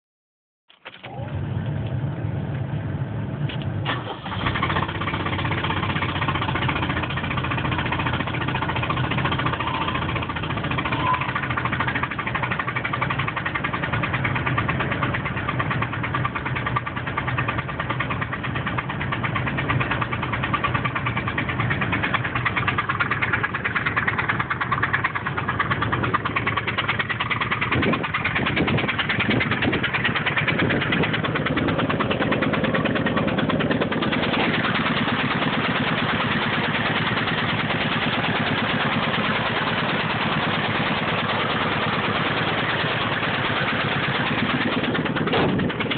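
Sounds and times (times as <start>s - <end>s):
car engine idling: 1.0s - 45.9s
fast engine knocking: 3.9s - 45.9s.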